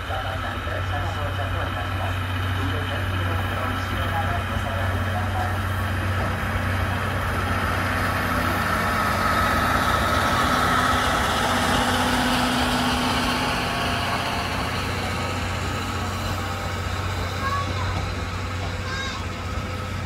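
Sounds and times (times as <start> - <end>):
faint train whine: 0.0 - 20.0
train running with low hum: 0.0 - 20.0.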